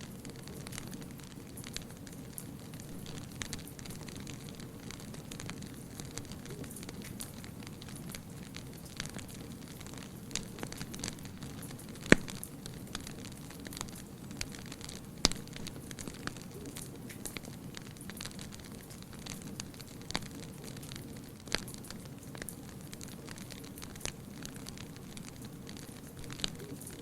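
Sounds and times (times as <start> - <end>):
wood fire crackling: 0.0 - 27.0
sharp pops from fire: 0.1 - 27.0.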